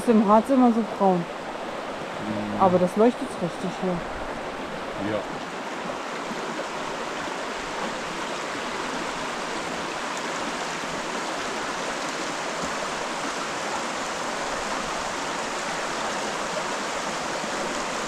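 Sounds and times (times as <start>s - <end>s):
river rushing over stones: 0.0s - 18.0s.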